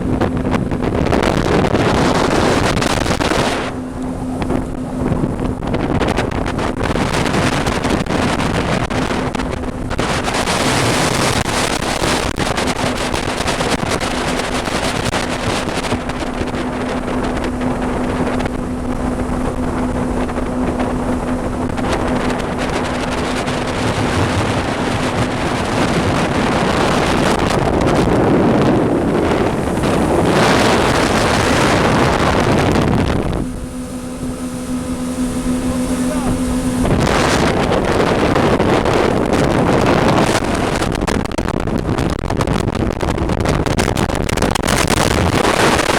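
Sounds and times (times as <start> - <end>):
boat engine hum: 0.0 - 45.9
wind buffeting microphone: 0.0 - 45.9.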